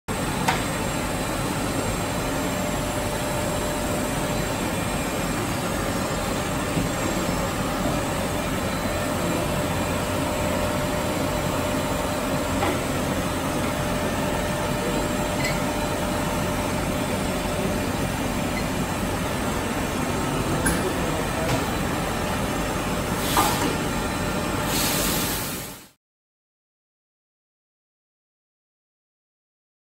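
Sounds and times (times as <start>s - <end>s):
grinder machine rumble and hiss: 0.1s - 26.0s.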